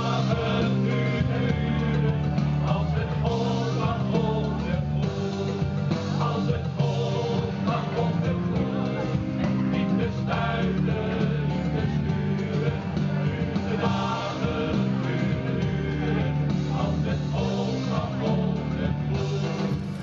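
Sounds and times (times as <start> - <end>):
choir singing pop song: 0.0 - 20.0
instrumental accompaniment with bass: 0.0 - 20.0.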